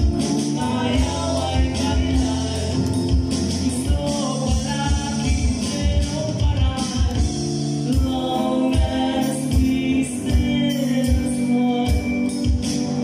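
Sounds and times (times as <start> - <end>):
acoustic guitar: 0.0 - 13.0
man singing into microphone: 0.0 - 13.0.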